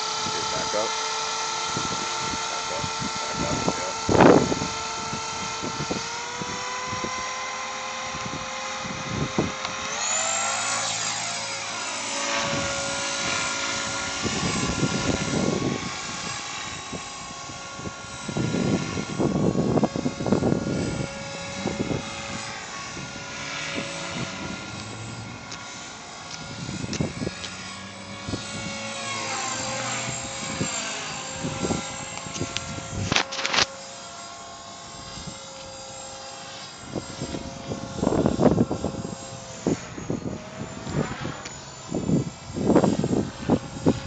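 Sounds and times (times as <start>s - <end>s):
motor whining: 0.0s - 44.0s.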